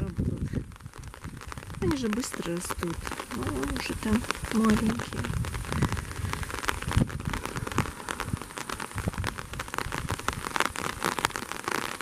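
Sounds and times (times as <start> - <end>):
faint rain hiss: 0.0 - 12.0
raindrops ticking: 0.0 - 12.0.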